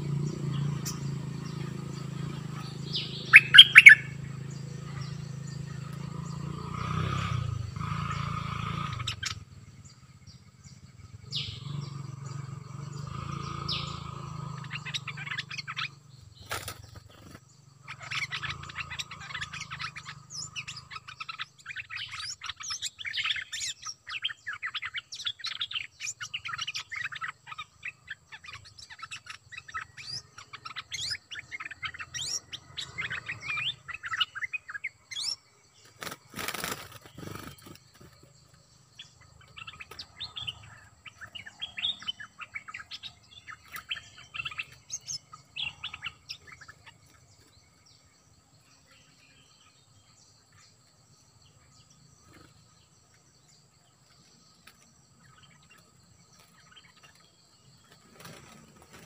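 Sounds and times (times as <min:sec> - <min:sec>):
bulbuls chirping and whistling: 0:00.0 - 0:48.1, 0:51.8 - 0:59.0.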